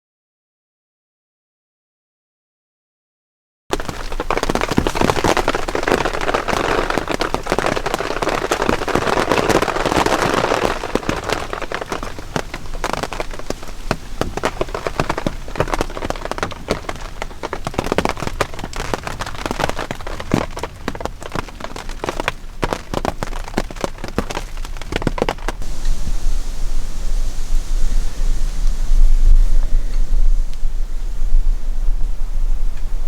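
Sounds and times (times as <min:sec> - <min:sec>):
sleet pattering on tent fabric: 0:03.7 - 0:30.8.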